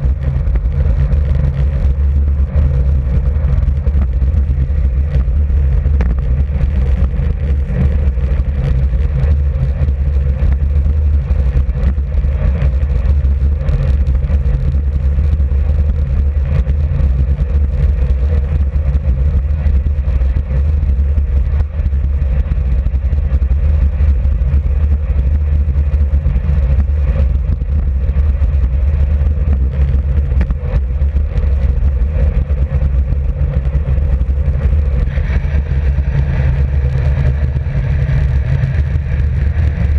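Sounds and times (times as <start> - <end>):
bicycle tyre noise on tarmac: 0.0 - 39.9
wind buffeting microphone: 0.0 - 39.9.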